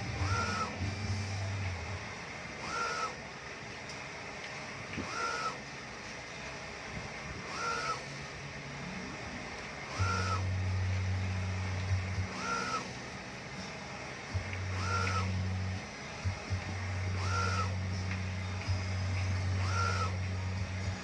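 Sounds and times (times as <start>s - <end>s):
low hum: 0.0s - 3.2s, 4.8s - 21.0s
printer carriage whine: 0.0s - 21.0s.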